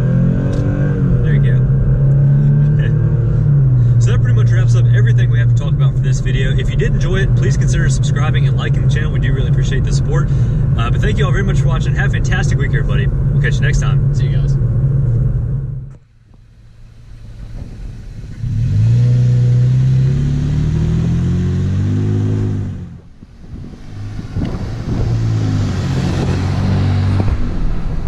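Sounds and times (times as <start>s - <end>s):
truck engine accelerating: 0.0s - 16.0s, 16.6s - 28.0s.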